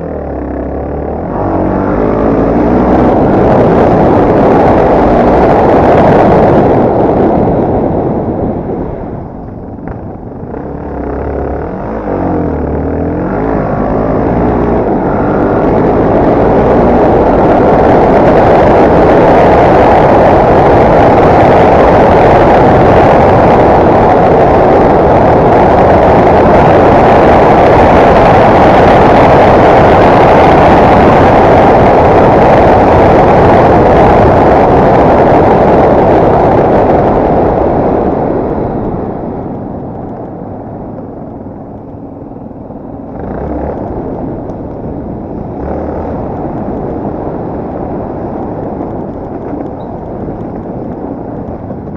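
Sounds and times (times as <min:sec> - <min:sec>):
motorcycle engine at speed: 0:00.0 - 0:51.9
wind noise: 0:00.0 - 0:51.9.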